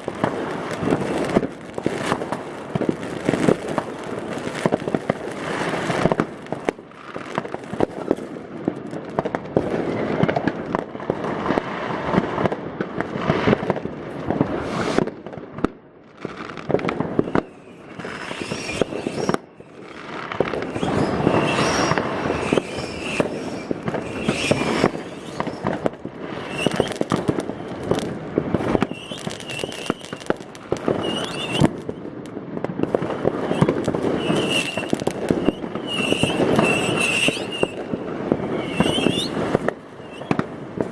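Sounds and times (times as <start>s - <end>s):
firework whistles: 0.0s - 8.3s, 9.6s - 10.6s, 14.4s - 15.2s, 16.4s - 32.1s, 32.8s - 40.9s
fireworks and firecrackers crackling: 0.0s - 40.9s.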